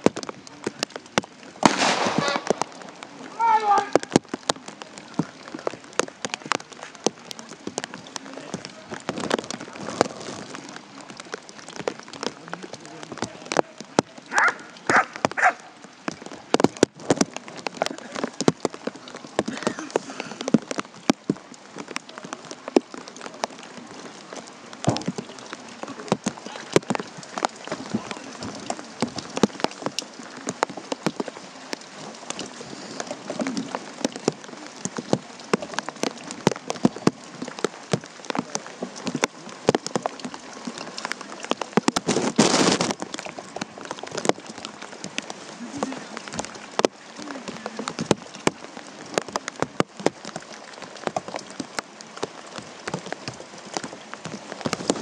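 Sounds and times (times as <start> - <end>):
rain drops ticking: 0.0 - 55.0.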